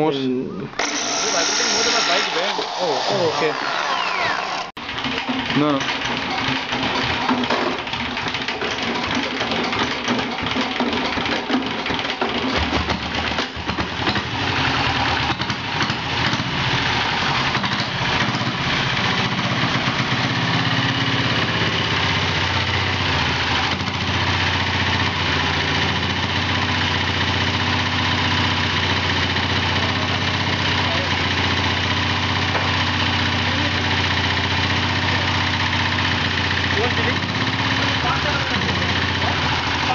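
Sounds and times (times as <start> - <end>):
diesel motorcycle engine starting: 2.4 - 39.9.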